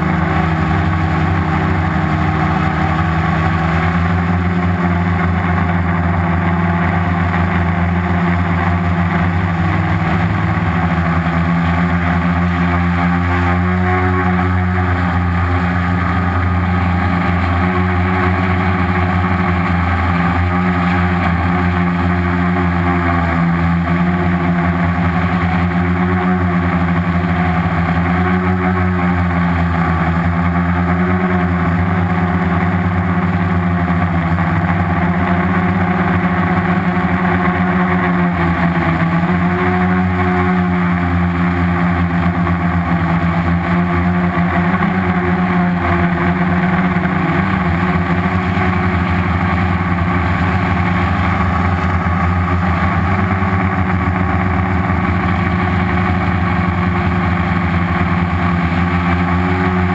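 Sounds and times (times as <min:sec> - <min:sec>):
drone motors buzzing hum: 0:00.0 - 0:59.9.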